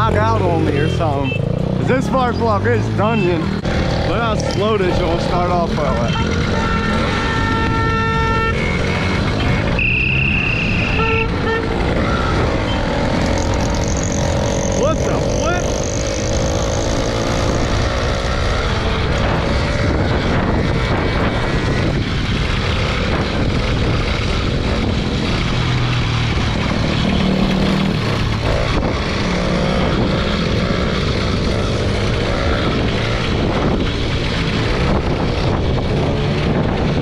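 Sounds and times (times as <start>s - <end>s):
heavy rushing noise: 0.0s - 37.0s.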